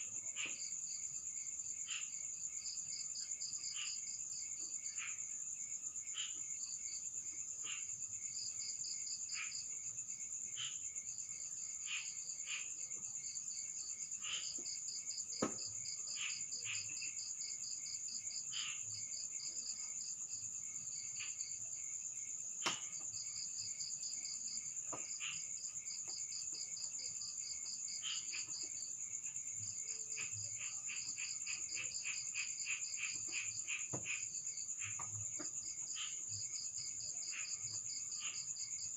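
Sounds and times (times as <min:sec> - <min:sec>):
insects trilling and chirping: 0:00.0 - 0:38.9.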